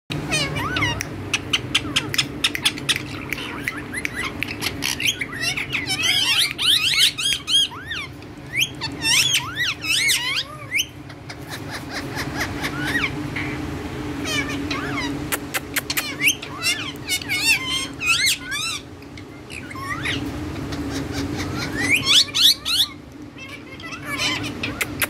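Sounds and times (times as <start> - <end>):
parakeets chirping and squawking: 0.1 - 25.0
steady low hum: 0.1 - 25.0.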